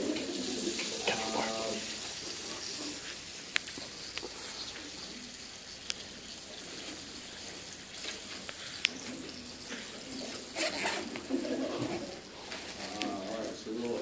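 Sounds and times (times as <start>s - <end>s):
meat sizzling on grill: 0.0s - 14.0s.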